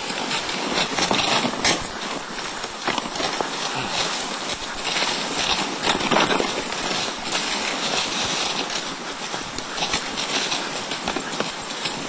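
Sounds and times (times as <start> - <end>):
dogs' paws pattering: 0.0 - 12.0
sled runners scraping snow: 0.0 - 12.0.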